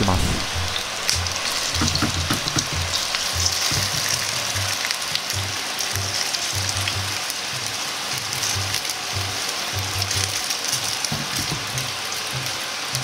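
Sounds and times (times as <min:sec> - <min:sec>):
soft background music with beat: 0:00.2 - 0:13.0
chicken sizzling in a frying pan: 0:00.5 - 0:13.0.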